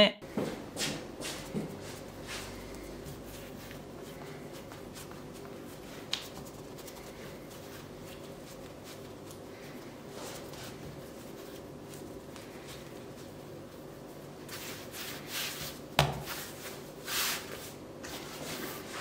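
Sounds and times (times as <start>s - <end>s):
hands rubbing and patting dough: 0.8s - 19.0s.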